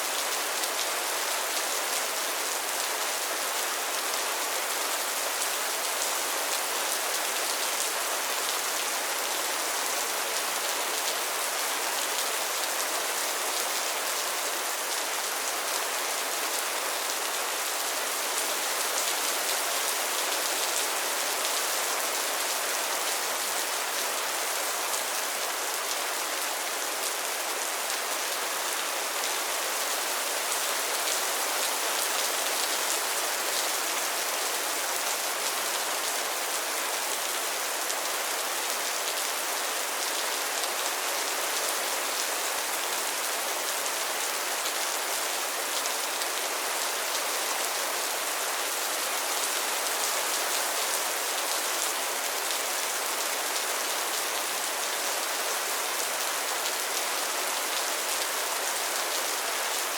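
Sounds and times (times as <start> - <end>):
rain falling on a pond: 0.0 - 59.9.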